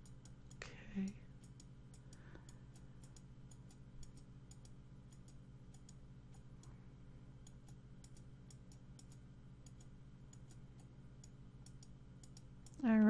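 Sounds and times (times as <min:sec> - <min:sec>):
computer mouse clicking: 0:00.0 - 0:00.6, 0:01.4 - 0:06.7, 0:07.4 - 0:12.9
low steady hum: 0:00.0 - 0:13.0.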